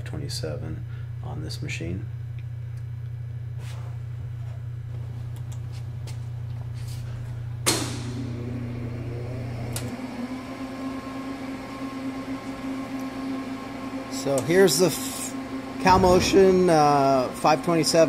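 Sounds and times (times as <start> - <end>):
low electrical hum: 0.0 - 9.9, 12.1 - 18.0
motor whine: 3.4 - 18.0.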